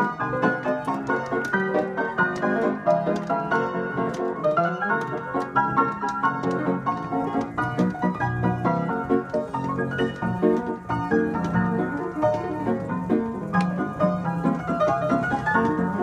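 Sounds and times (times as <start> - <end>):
player piano playing lively tune: 0.0 - 16.0.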